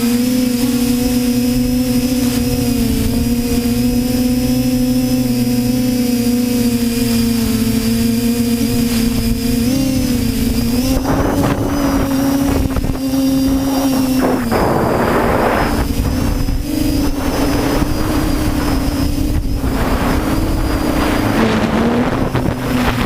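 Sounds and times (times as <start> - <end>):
quadcopter motors whining: 0.0 - 23.0
wind gusting on microphone: 0.0 - 23.0.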